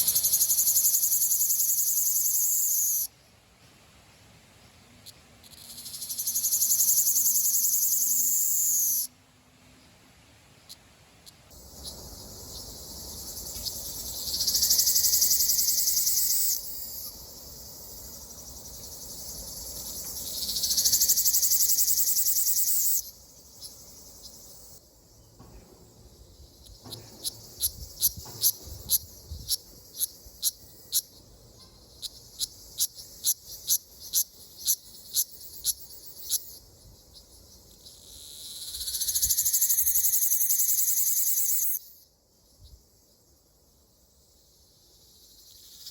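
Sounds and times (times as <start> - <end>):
cicadas buzzing: 0.0 - 3.2, 4.9 - 9.2, 10.7 - 45.9.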